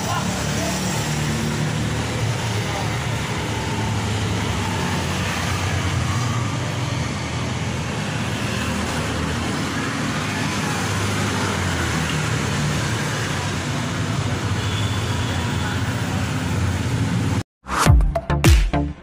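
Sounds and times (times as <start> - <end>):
road traffic noise: 0.0 - 17.4.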